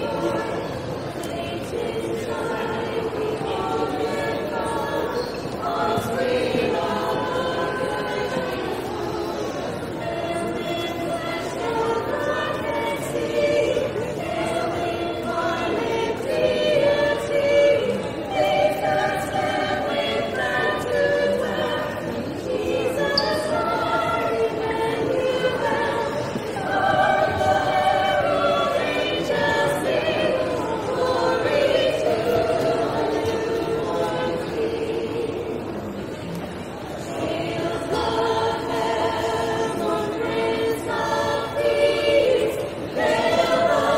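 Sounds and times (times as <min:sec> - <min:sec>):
vocal group singing in harmony: 0:00.0 - 0:43.9.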